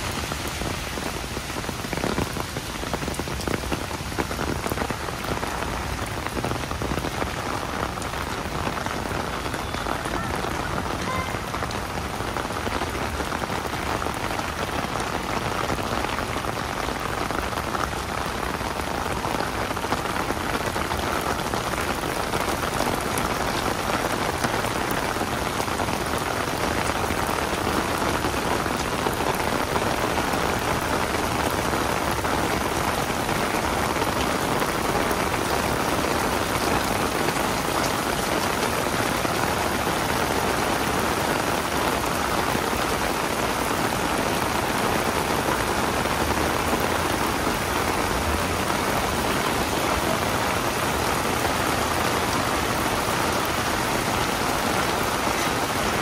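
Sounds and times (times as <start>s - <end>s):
heavy rain on an umbrella: 0.0s - 56.0s.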